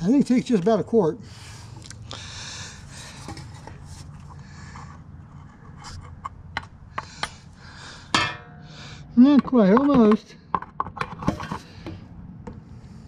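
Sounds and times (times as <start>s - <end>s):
steady low hum: 0.8s - 13.0s.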